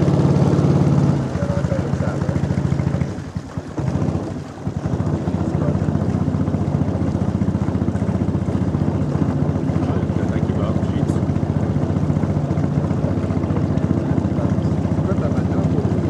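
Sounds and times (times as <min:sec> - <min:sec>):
small boat motor pulsing: 0:00.0 - 0:16.0.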